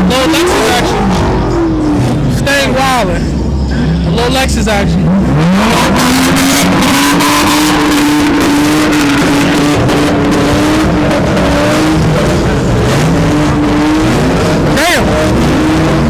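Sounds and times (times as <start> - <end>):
car engine revving: 0.0 - 16.0
crowd noise: 0.0 - 16.0.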